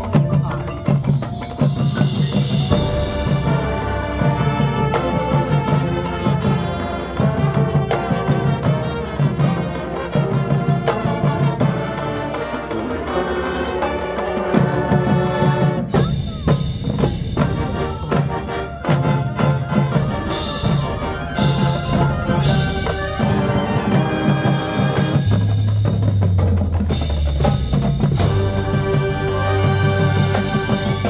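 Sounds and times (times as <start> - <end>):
drum line beat: 0.0 - 31.0
marching band brass: 0.1 - 31.0.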